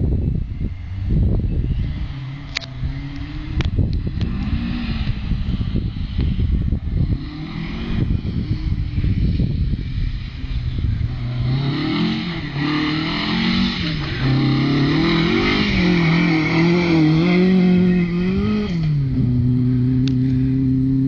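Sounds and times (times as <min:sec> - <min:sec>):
rally car engine revving: 0:01.8 - 0:21.0.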